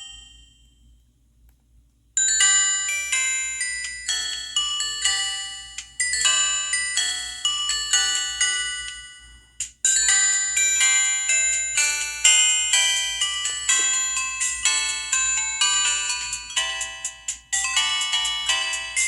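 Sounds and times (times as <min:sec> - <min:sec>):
phone ringtone melody: 0:02.2 - 0:19.0.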